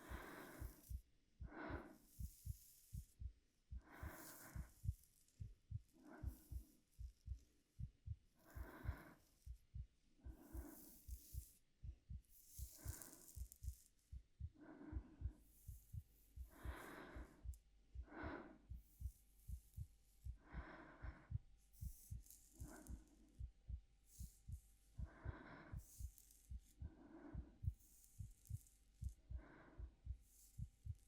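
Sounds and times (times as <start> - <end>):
heartbeat: 0.0 - 31.0
woman breathing softly: 0.0 - 31.0.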